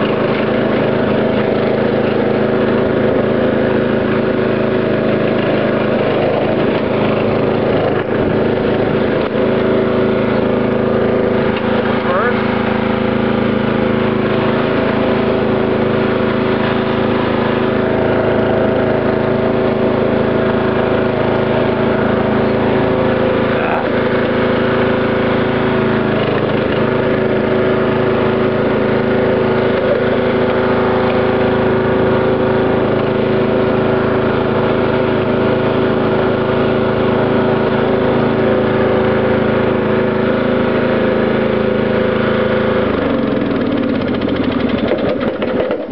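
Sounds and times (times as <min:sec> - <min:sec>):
riding tractor engine running: 0:00.0 - 0:45.9.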